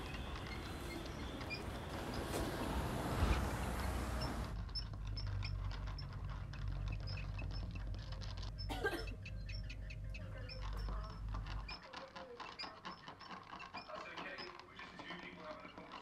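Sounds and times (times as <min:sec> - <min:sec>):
rat squeaking: 0:00.0 - 0:01.9, 0:04.2 - 0:16.0.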